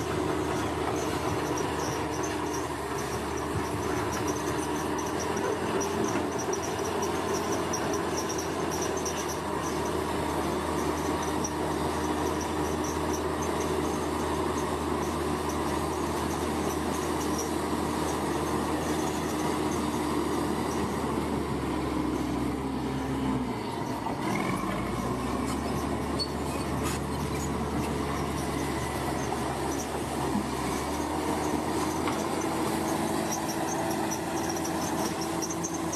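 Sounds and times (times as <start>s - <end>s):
heavy diesel machinery drone: 0.0s - 35.9s.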